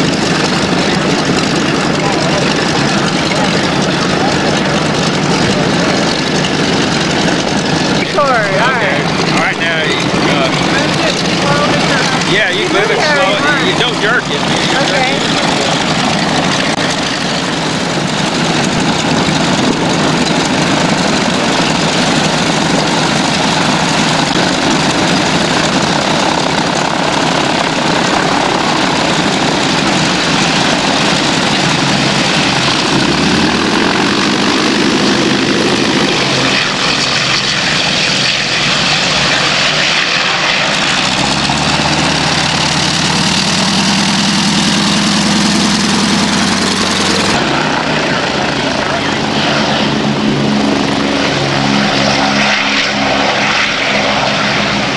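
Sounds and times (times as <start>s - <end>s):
deeper engine note: 0.0s - 54.9s
propeller aircraft engines: 0.0s - 54.9s.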